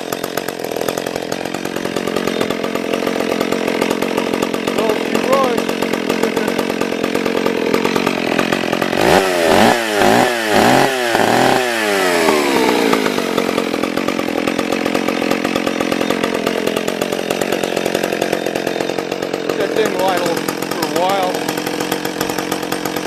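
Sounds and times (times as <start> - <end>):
chainsaw idling and revving: 0.0 - 23.0.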